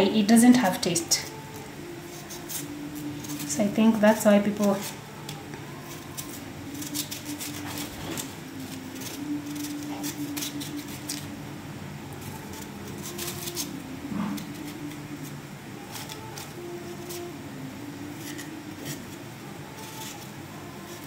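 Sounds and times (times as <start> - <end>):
steady low hum: 0.0 - 21.0
knife peeling squash: 0.9 - 11.4, 12.2 - 21.0.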